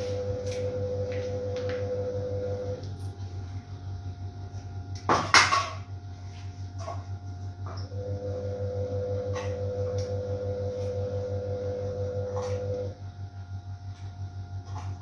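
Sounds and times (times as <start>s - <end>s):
washing machine drum humming: 0.0s - 15.0s.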